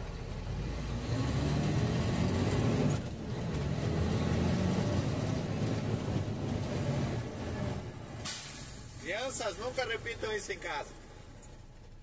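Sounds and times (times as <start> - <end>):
truck engine from inside cab: 0.0 - 12.0.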